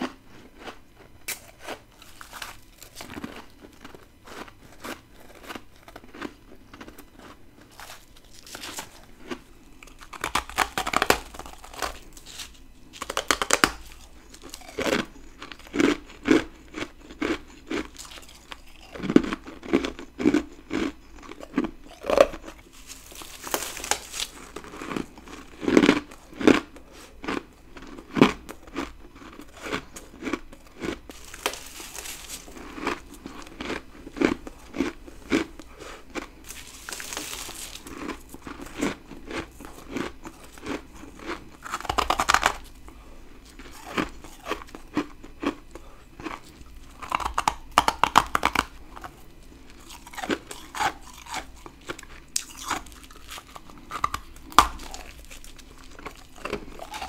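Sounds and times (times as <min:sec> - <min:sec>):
chewing frost crunches: 0:00.0 - 0:57.0.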